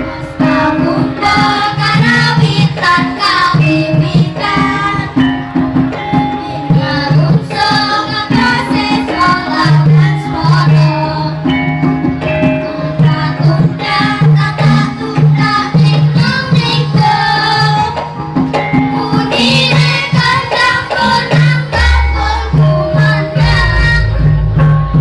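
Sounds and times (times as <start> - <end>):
gamelan ensemble playing: 0.0 - 25.0
hand drum strokes: 0.0 - 25.0.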